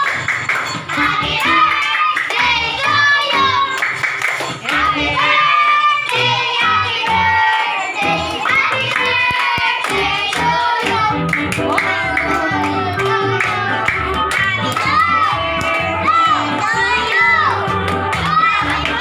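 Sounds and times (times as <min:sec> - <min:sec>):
hand clapping: 0:00.0 - 0:19.0
music with singing: 0:00.0 - 0:19.0
children singing: 0:00.8 - 0:19.0.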